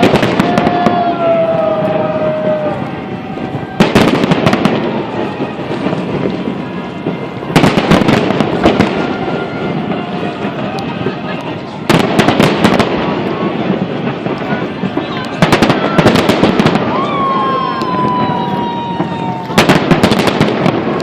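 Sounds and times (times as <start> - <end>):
fireworks bangs and crackling: 0.0 - 21.0
rumbling echoes: 0.0 - 21.0.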